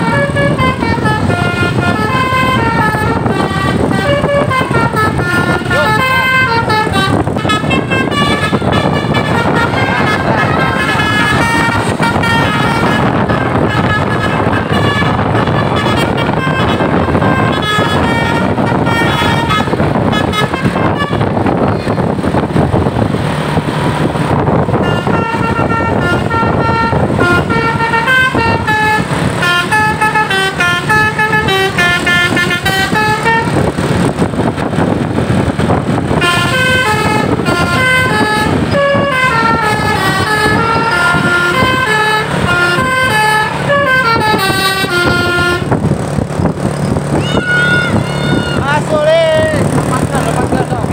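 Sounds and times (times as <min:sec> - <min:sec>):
bus horn playing melodies: 0:00.0 - 0:48.6
bus engine and road noise: 0:00.0 - 0:50.9.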